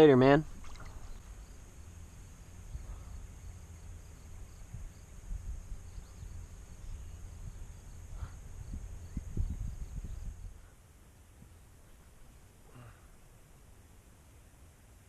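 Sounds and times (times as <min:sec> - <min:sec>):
wind rumble on microphone: 0:00.0 - 0:12.2.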